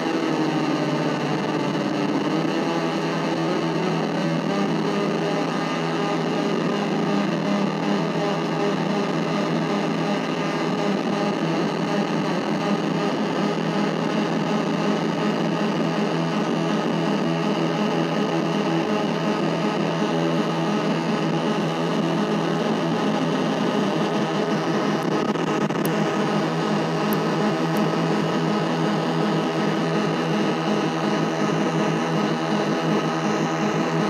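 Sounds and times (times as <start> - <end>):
distorted synthesizer drone: 0.0 - 34.0.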